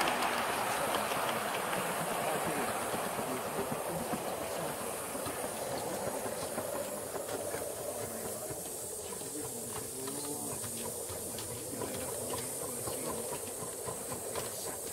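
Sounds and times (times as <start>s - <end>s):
faint wheel clicks: 0.0s - 14.9s
model steam locomotive hissing: 0.0s - 14.9s.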